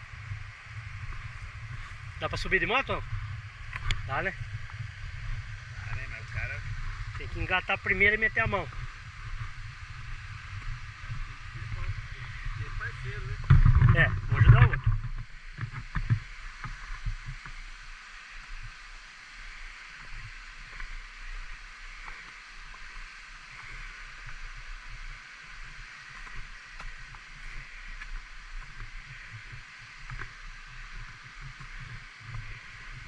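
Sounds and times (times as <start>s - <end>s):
flowing water rushing: 0.0s - 33.0s
wind buffeting microphone: 0.0s - 33.0s.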